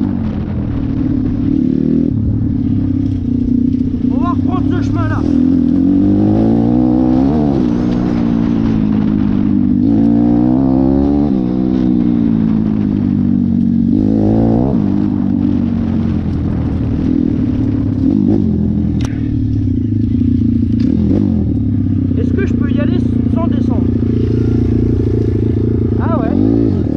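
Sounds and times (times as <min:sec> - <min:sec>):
motorbike engine revving: 0:00.0 - 0:26.9.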